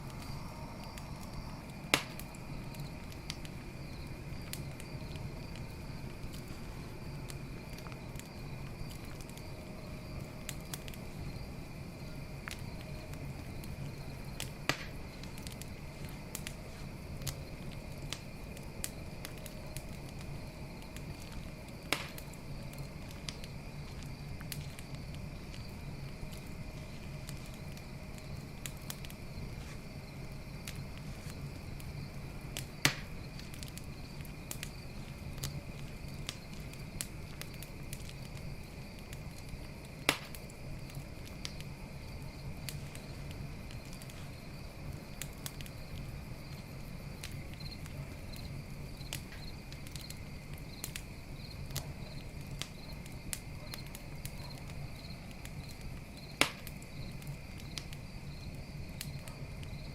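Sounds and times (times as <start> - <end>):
campfire crackling: 0.0 - 59.9
crickets trilling: 0.0 - 59.9
sharp fire pops: 0.1 - 9.5, 12.4 - 59.9.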